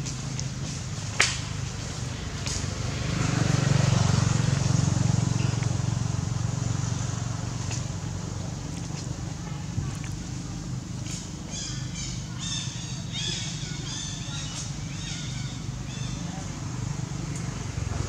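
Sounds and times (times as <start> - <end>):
motor vehicle passing: 0.0 - 18.0.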